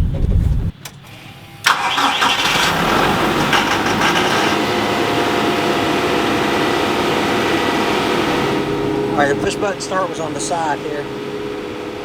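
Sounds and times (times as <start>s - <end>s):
tractor diesel engine starting: 0.2s - 12.0s.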